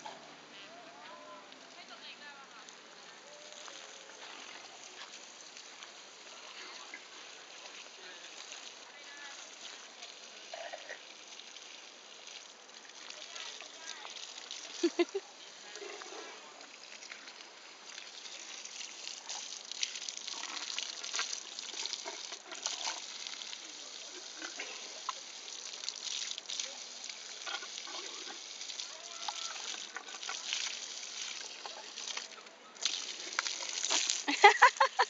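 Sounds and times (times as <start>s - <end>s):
water splashing from garden hose: 2.6s - 35.0s.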